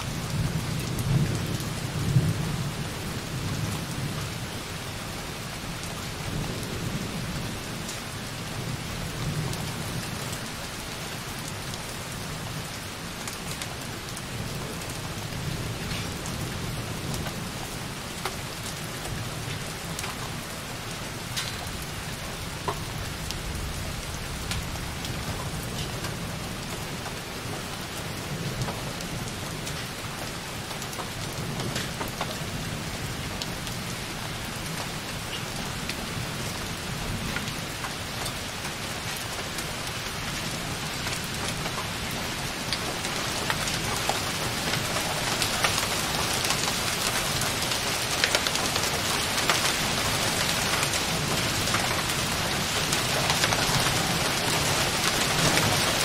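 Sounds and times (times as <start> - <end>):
light rain on a window: 0.0 - 56.0.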